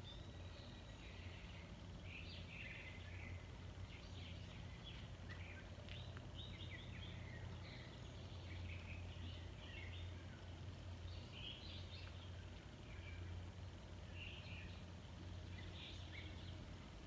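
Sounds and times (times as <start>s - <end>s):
low background hum: 0.0s - 17.0s
small birds chirping: 0.0s - 17.0s.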